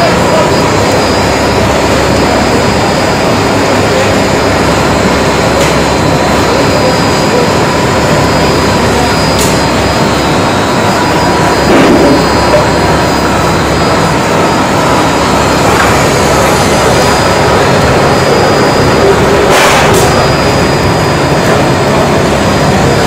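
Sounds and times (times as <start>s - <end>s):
lathe motors running with whine: 0.0s - 23.0s.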